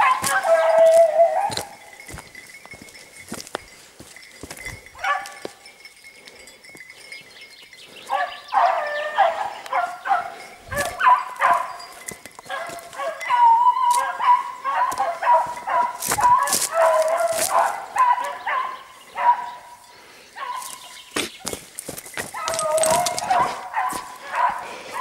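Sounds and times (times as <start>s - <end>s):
dogs baying: 0.0s - 3.1s, 3.9s - 6.4s, 8.0s - 21.6s, 22.2s - 25.0s.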